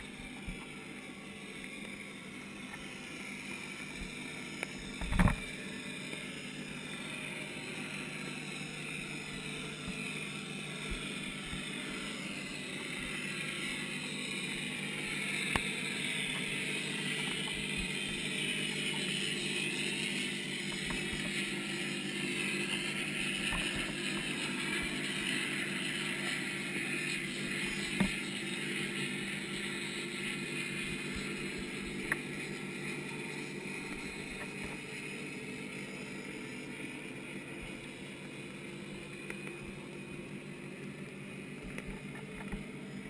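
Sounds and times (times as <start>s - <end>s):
underwater hum and hiss: 0.0s - 43.0s.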